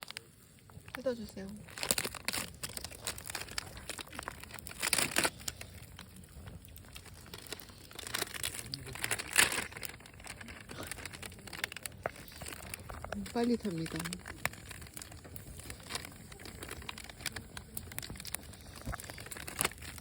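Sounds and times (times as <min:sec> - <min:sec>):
plastic wrapper crinkling and tearing: 0:00.0 - 0:20.0.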